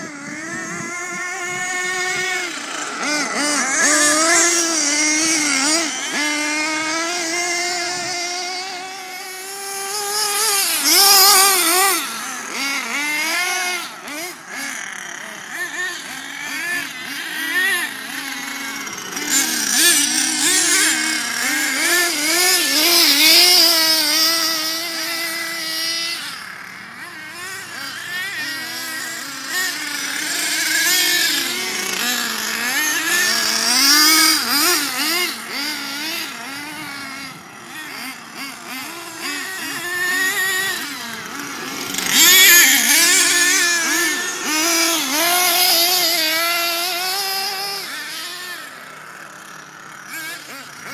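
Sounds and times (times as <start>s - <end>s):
rc truck engines revving: 0.0s - 50.9s.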